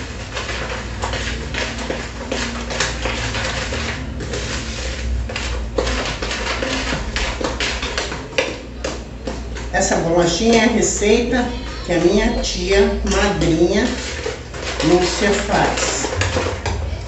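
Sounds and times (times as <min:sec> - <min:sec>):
spatula scraping plastic bowl: 0:00.0 - 0:17.0.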